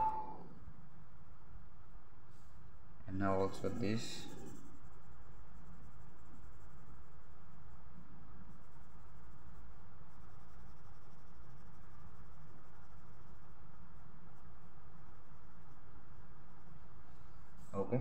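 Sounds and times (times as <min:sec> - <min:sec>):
low background hum: 0:00.0 - 0:18.0
pencil scratching on paper: 0:03.2 - 0:17.7.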